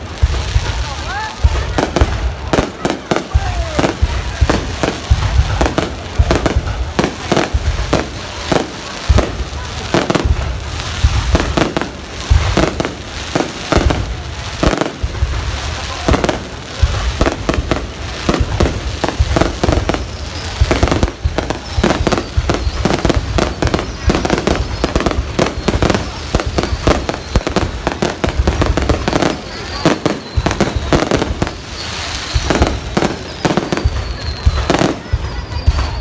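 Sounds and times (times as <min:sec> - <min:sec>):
fireworks bangs and booms: 0:00.0 - 0:36.0.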